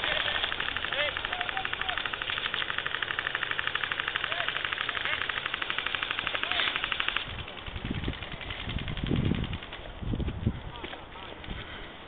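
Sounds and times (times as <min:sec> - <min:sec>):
airsoft rifle rapid fire: 0:00.0 - 0:10.0.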